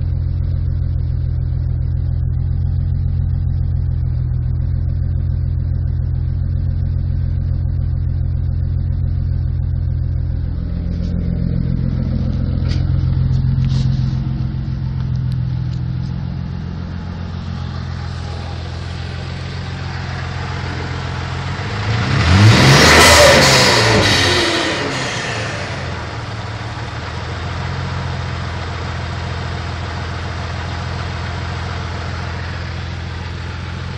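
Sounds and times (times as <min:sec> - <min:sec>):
car engine idling: 0:00.0 - 0:33.9
engine revving: 0:00.0 - 0:33.9.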